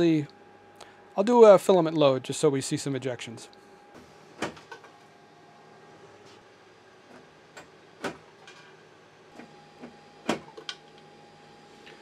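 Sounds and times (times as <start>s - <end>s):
printer fan hum: 0.0s - 12.0s.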